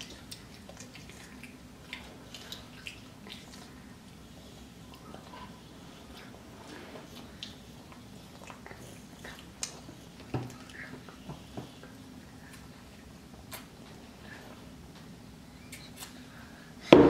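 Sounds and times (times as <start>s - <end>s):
children chewing: 0.0s - 17.0s
faint low hum: 0.0s - 17.0s.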